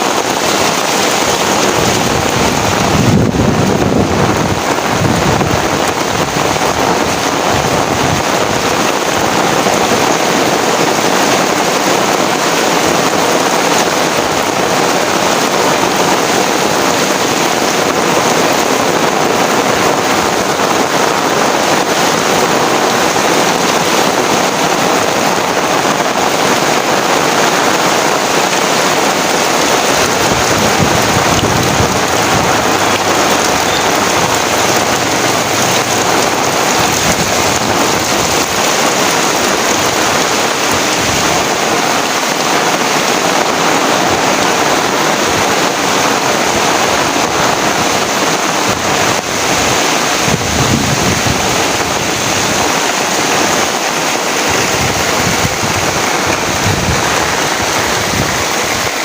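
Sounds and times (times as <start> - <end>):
heavy rain pouring: 0.0 - 59.0
wind gusts rumbling: 0.0 - 59.0.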